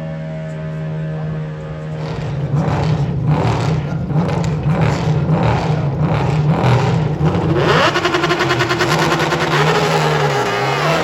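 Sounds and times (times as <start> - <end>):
motorcycle engine revving: 0.7 - 11.0.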